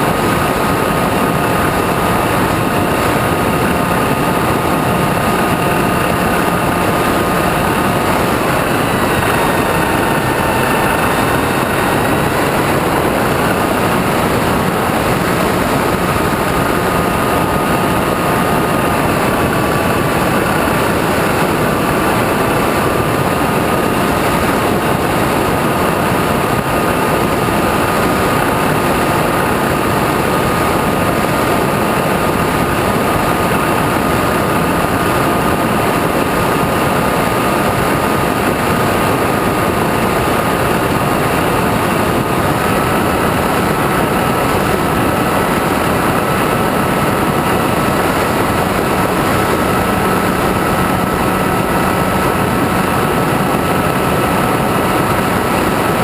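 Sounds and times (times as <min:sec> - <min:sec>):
wind rushing: 0:00.0 - 0:56.0.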